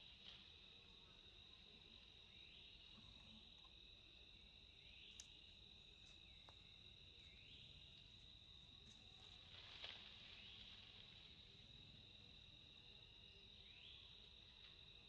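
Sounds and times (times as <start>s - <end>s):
insect chorus whine: 0.0s - 15.0s.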